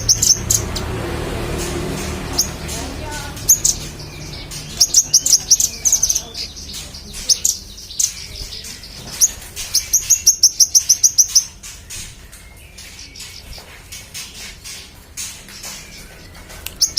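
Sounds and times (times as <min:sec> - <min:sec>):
songbird chirping and whistling: 0:00.0 - 0:01.0, 0:02.0 - 0:16.9.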